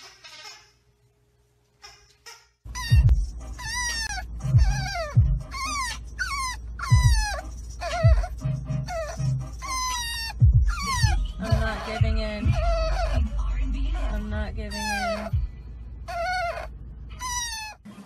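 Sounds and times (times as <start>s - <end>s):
puppy whining: 2.7s - 17.8s
road noise rumble: 2.7s - 18.0s.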